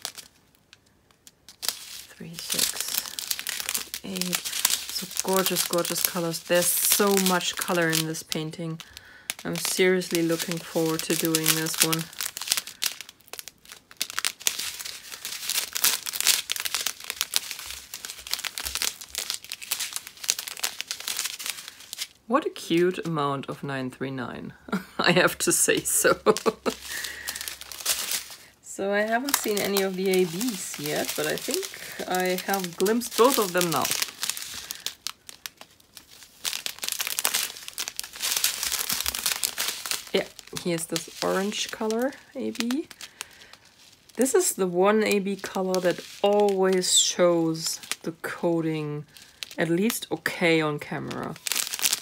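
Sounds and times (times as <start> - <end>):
plastic bags crinkling: 0.0 - 23.6, 24.3 - 52.0.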